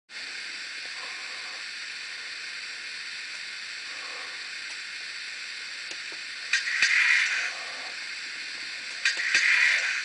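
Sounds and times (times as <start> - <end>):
simulated steam hiss: 0.1 - 10.0.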